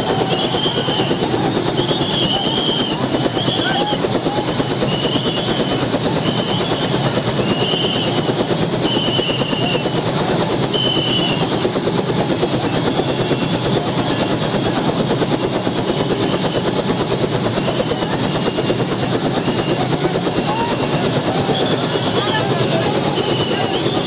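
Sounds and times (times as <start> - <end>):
helicopter rotor and engine: 0.0 - 24.0.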